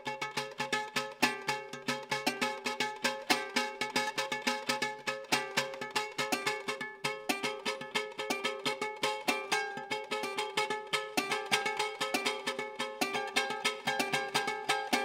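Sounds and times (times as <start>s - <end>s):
small guitar strummed rhythmically: 0.0s - 15.0s.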